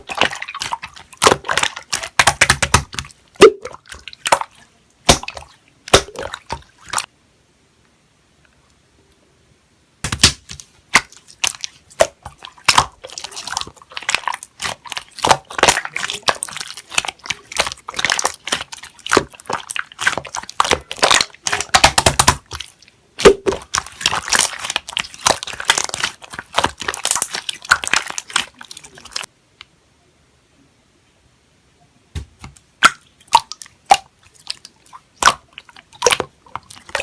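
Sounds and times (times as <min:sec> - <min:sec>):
slime squished by hand: 0:00.0 - 0:07.1, 0:10.0 - 0:29.3, 0:32.4 - 0:37.0.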